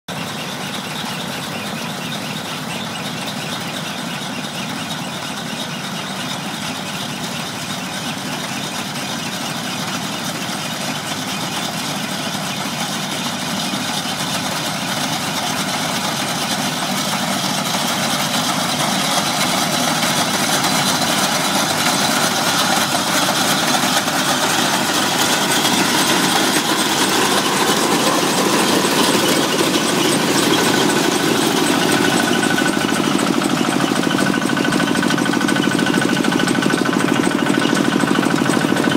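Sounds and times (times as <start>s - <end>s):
harvester engine running: 0.1s - 38.9s.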